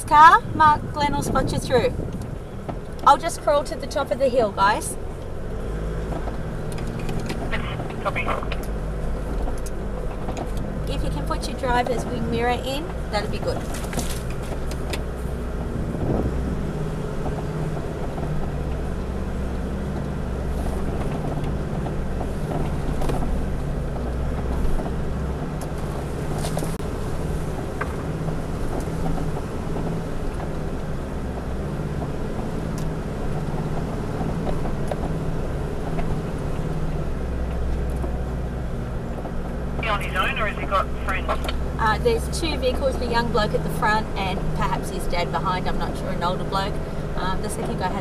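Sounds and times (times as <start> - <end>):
car engine running at low revs: 0.0 - 48.0.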